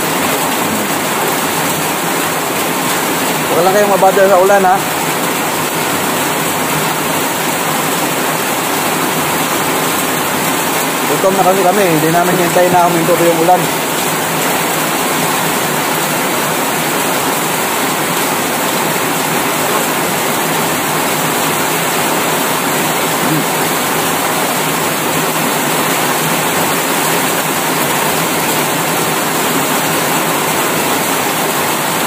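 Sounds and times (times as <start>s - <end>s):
heavy rain on a roof: 0.0s - 32.0s.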